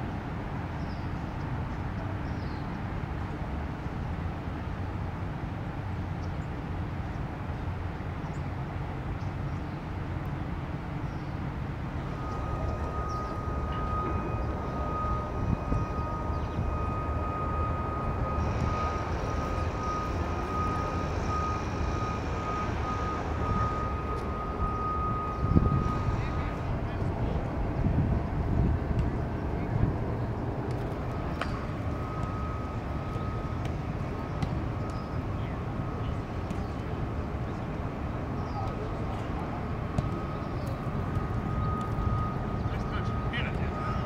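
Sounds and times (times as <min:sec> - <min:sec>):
distant engines rumbling: 0:00.0 - 0:44.0
thin steady whine: 0:00.0 - 0:44.0.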